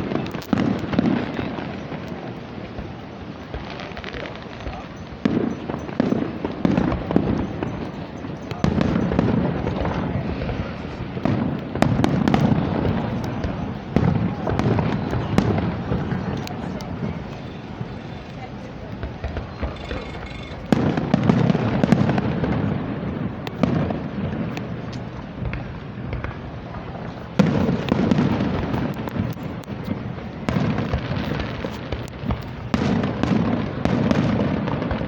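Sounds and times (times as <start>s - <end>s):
fireworks booming: 0.0s - 35.0s
fireworks crackling and popping: 0.0s - 35.0s.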